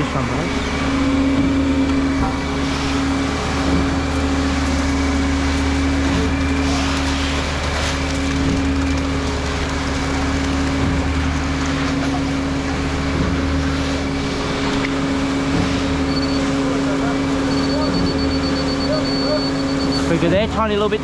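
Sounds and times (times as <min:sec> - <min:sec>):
diesel truck engine droning: 0:00.0 - 0:21.0.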